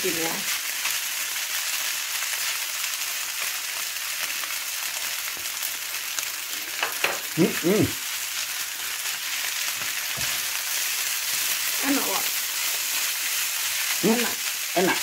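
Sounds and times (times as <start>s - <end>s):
rice sizzling in a wok: 0.0s - 15.0s.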